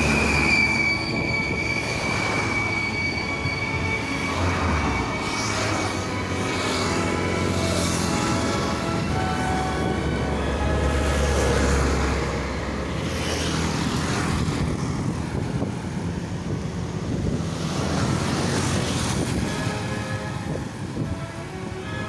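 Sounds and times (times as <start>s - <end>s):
road vehicle driving: 0.0s - 22.0s.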